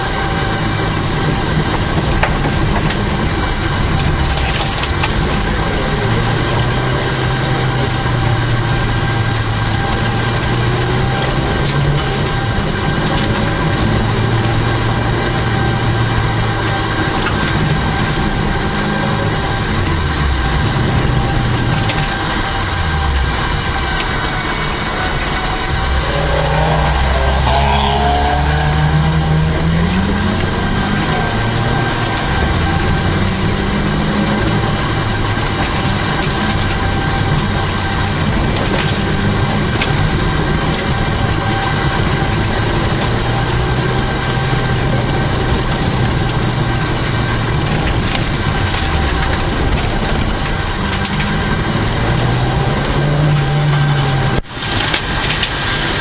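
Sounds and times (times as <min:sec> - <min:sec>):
car engine running: 0:00.0 - 0:56.0
road and cabin noise: 0:00.0 - 0:56.0.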